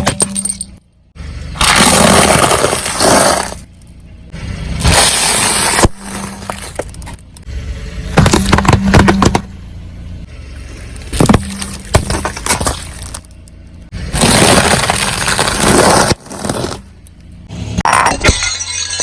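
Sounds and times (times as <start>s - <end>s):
faint engine hum: 0.0s - 17.8s
car tyre crushing brittle objects: 1.4s - 7.5s, 8.1s - 9.5s, 10.3s - 19.0s.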